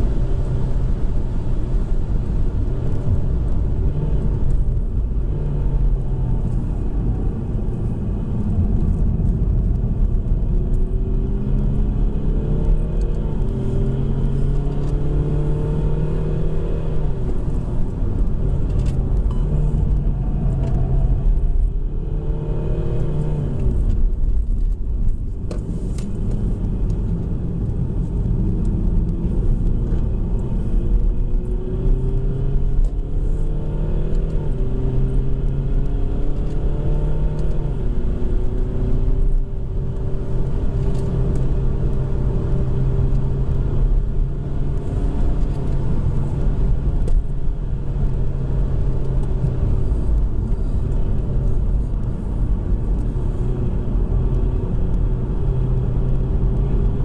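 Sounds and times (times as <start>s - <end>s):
car engine revving: 0.0s - 57.0s
tyre and wind rumble: 0.0s - 57.0s.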